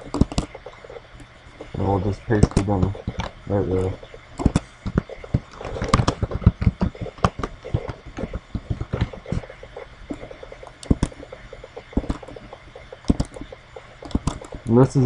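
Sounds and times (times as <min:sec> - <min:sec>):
keyboard typing: 0:00.0 - 0:01.0, 0:01.6 - 0:15.0.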